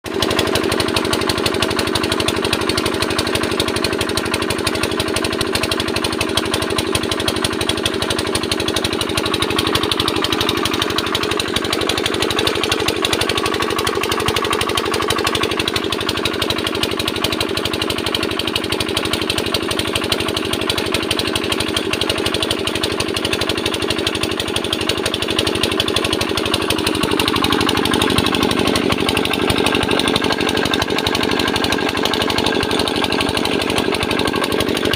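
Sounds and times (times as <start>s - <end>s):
diesel engine knocking: 0.1s - 34.9s.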